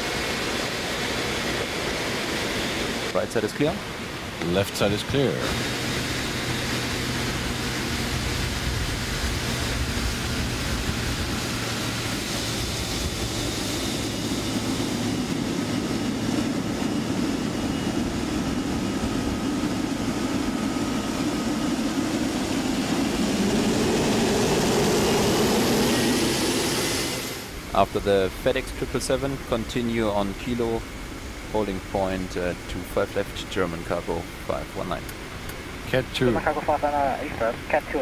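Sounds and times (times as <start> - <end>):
jet engines taxiing: 0.0 - 38.0.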